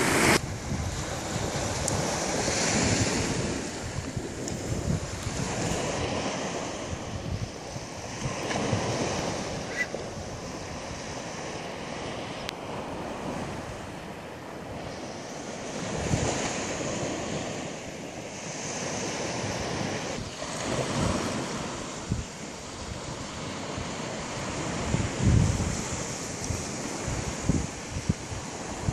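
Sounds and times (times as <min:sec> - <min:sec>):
wind buffeting microphone: 0:00.0 - 0:17.7, 0:18.4 - 0:28.9
sea waves on rocky shore: 0:00.0 - 0:28.9.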